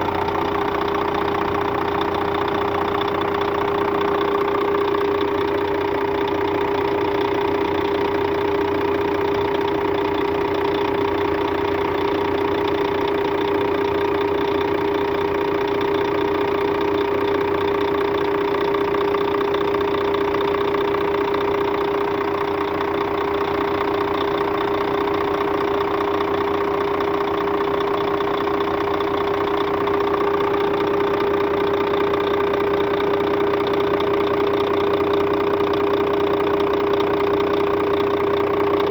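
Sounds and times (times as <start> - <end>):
bus diesel engine running: 0.0 - 38.9
strong steady engine tone: 0.0 - 38.9.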